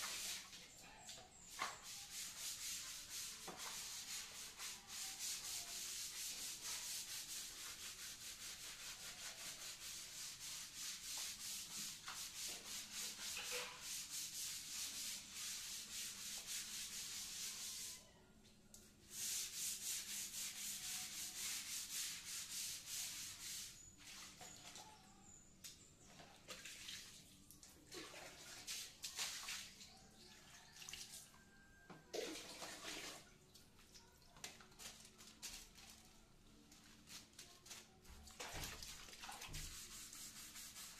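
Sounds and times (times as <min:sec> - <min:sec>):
brush scrubbing wet tiled floor: 0:00.0 - 0:18.1, 0:19.0 - 0:31.6, 0:32.2 - 0:40.9.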